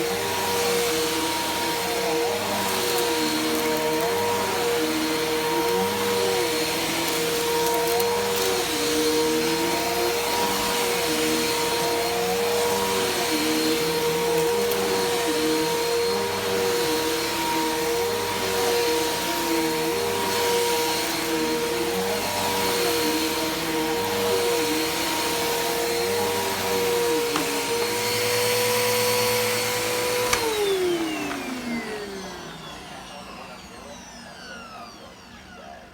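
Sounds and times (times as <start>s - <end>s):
vacuum cleaner motor whine: 0.0s - 35.9s.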